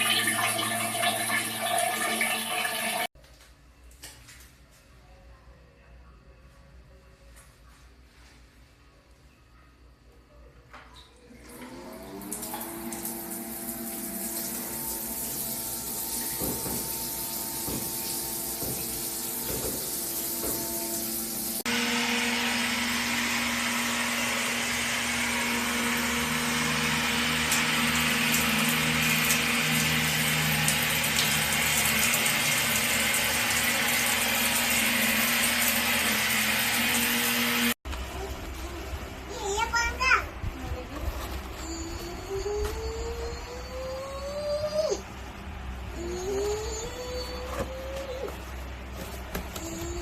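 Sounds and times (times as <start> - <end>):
water heater pump humming: 0.0 - 3.1, 11.0 - 50.0.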